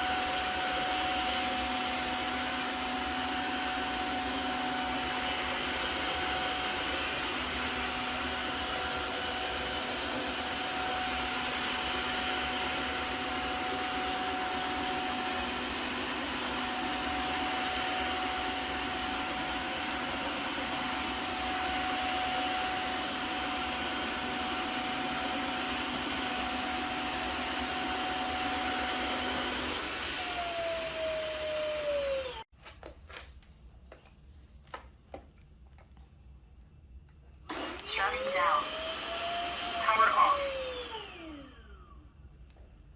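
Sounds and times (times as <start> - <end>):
vacuum cleaner whining: 0.0 - 32.5, 37.5 - 42.5.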